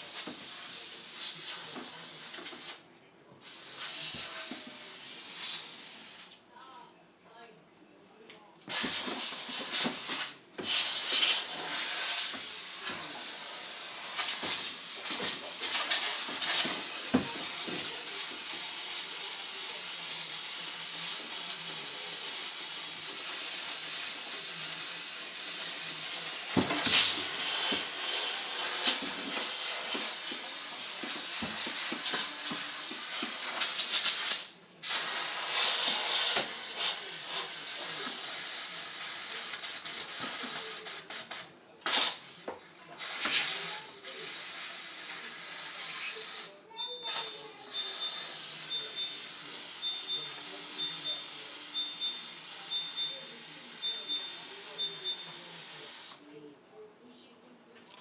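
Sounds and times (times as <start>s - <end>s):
steam cleaner hissing: 0.0s - 2.8s, 3.4s - 6.4s, 8.7s - 56.2s.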